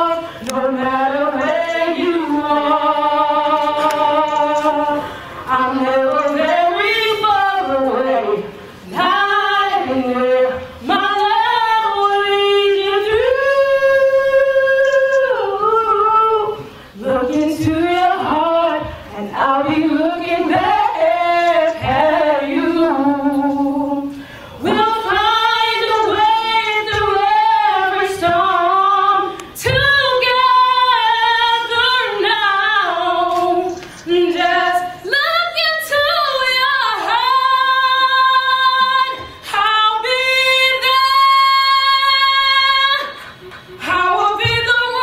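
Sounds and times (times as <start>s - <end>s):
woman singing slow song: 0.0s - 43.2s, 43.8s - 45.0s.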